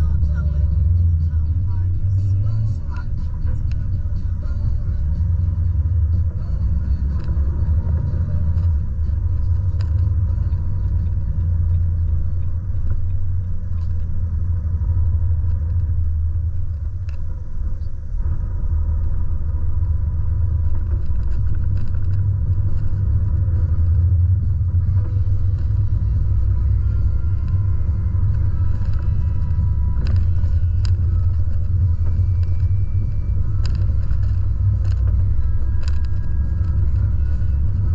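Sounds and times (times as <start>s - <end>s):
truck engine and road noise: 0.0s - 37.9s
light clicks and rattles: 5.4s - 17.9s, 19.0s - 37.9s.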